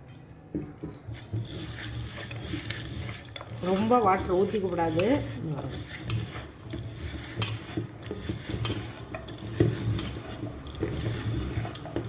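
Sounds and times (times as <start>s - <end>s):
spoon stirring batter in bowl: 0.5s - 12.0s.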